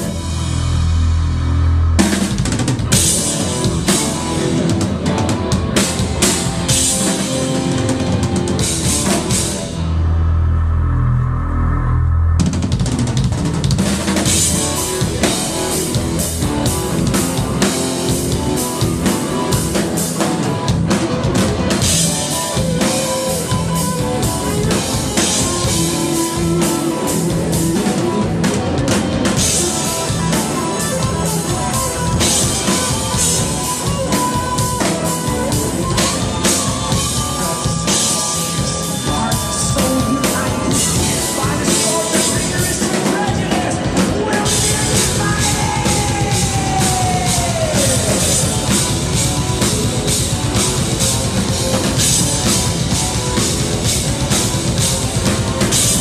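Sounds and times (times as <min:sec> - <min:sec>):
live rock band playing: 0:00.0 - 0:10.3, 0:12.4 - 0:56.0
electric guitar: 0:00.0 - 0:56.0.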